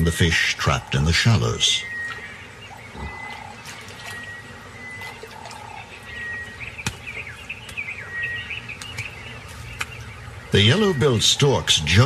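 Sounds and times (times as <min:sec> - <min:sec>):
birds whistling: 0:00.0 - 0:12.0.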